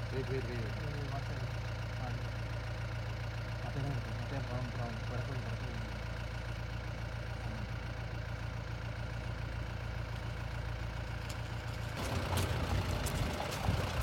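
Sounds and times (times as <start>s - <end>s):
jeep engine idling: 0.0s - 14.0s
jeep engine rumbling: 0.0s - 14.0s.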